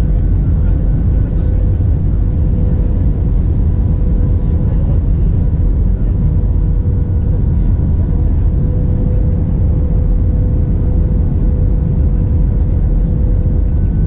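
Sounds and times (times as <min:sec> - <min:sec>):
airliner engine and airflow rumble: 0:00.0 - 0:14.0
steady hum: 0:00.0 - 0:14.0.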